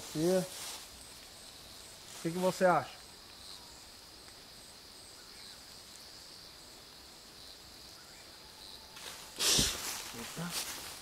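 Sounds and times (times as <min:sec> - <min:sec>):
high repeating insect call: 0:00.0 - 0:11.0
night insects chorus: 0:00.0 - 0:11.0.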